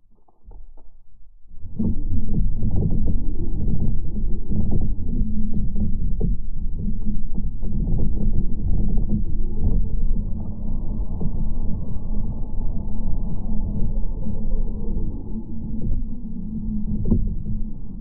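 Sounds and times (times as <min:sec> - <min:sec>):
muffled underwater rumble: 0:00.0 - 0:18.0.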